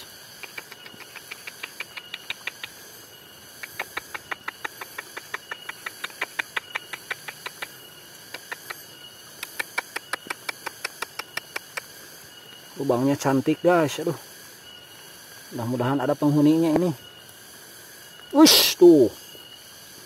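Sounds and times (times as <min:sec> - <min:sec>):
steady insect drone: 0:00.0 - 0:20.0.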